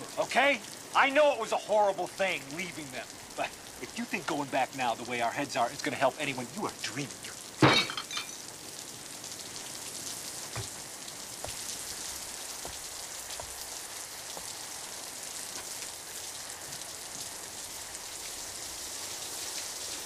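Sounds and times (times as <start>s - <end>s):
raindrops ticking: 0.0s - 20.0s
steady rain falling: 0.0s - 20.0s.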